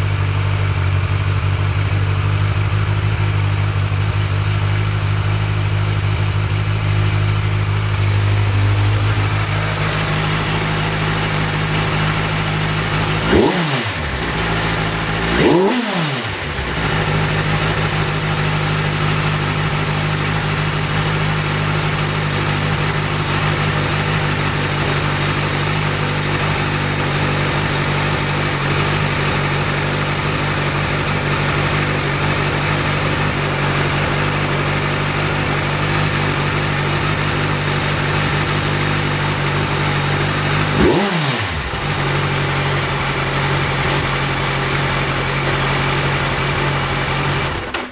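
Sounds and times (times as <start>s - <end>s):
motorcycle engine idling: 0.0s - 47.9s
motorcycle throttle blips: 0.0s - 47.9s.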